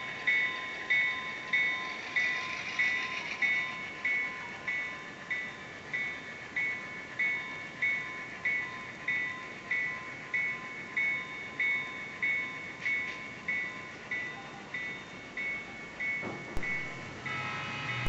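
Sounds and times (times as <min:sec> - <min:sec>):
locomotive bell ringing: 0:00.0 - 0:18.0.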